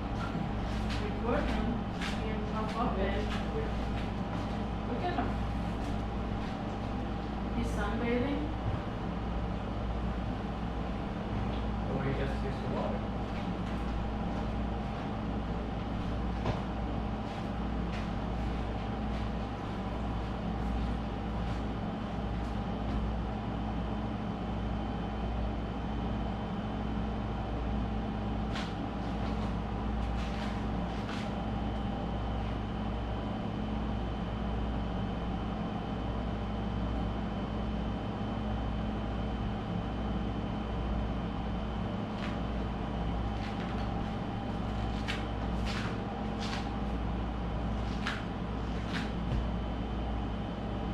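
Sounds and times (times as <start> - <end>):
low mechanical hum: 0.0 - 50.9.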